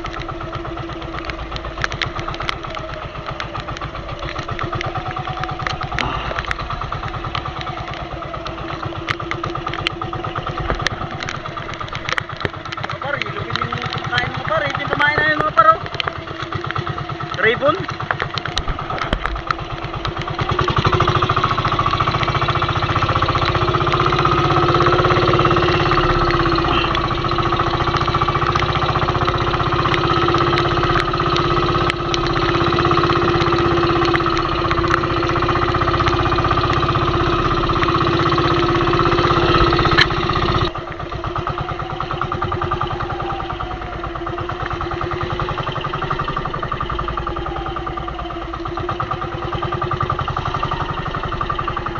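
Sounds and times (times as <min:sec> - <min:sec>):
boat engine running: 0:00.0 - 0:51.9.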